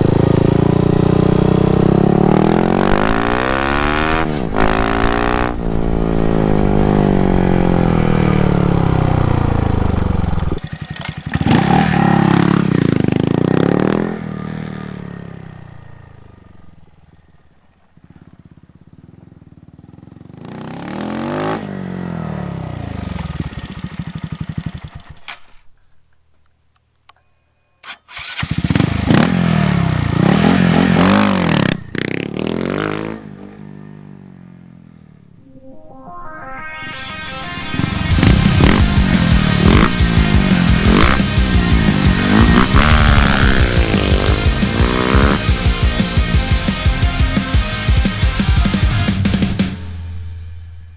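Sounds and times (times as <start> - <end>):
motorcycle engine revving: 0.0 - 25.1, 28.2 - 35.2, 38.0 - 49.7.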